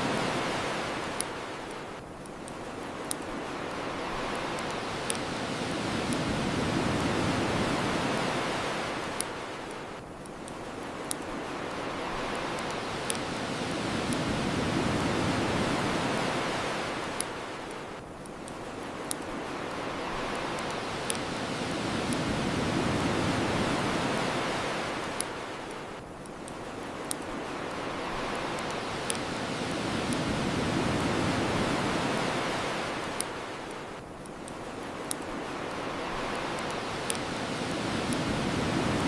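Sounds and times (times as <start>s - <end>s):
ocean surf on shore: 0.0s - 39.0s
bonfire crackling pops: 0.1s - 39.0s.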